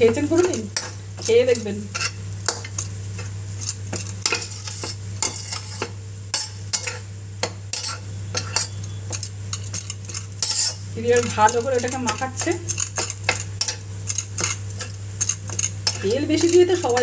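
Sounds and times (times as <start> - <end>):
light sizzle: 0.0 - 17.0
metal spatula scraping a pan: 0.0 - 17.0.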